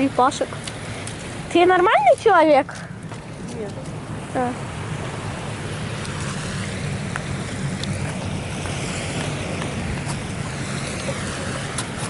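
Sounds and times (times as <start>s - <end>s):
surf washing on shore: 0.0s - 12.0s
wind buffeting microphone: 0.0s - 12.0s.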